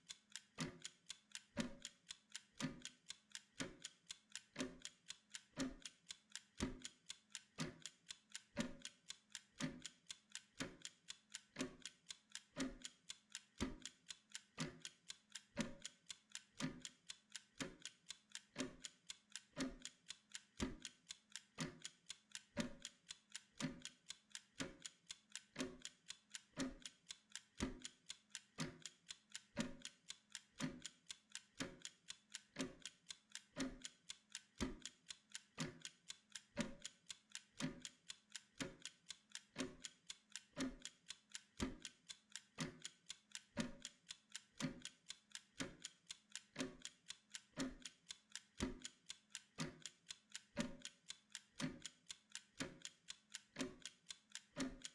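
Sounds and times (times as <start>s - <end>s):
kitchen timer ticking: 0.0s - 54.9s.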